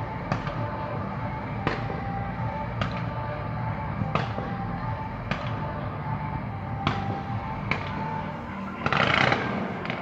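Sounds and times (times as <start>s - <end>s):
fireworks background din: 0.0s - 10.0s.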